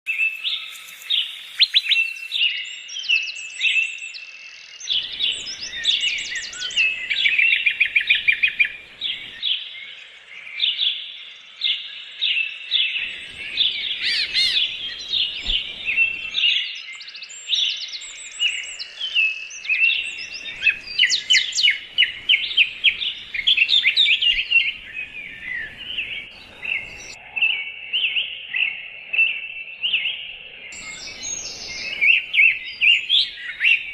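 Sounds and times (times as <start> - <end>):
birds chirping and trilling: 0.1 - 33.9.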